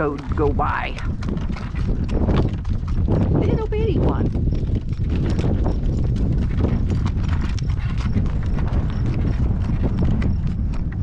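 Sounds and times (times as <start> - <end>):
horse hooves clip-clopping: 0.0 - 11.0
steady low rumble: 0.0 - 11.0.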